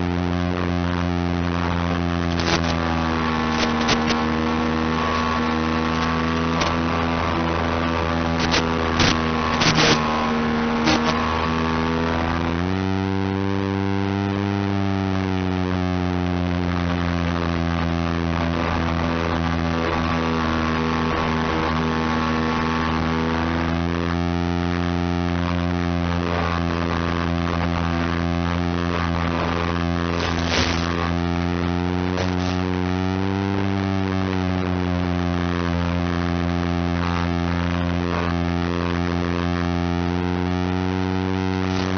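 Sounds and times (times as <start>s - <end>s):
buzzing drone motor and propeller: 0.0s - 41.9s
radio static crackles: 0.0s - 41.9s.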